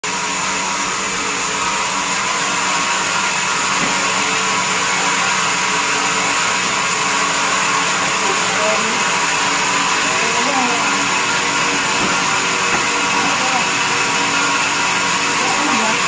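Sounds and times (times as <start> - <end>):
band sawmill machinery whirring: 0.0 - 16.0.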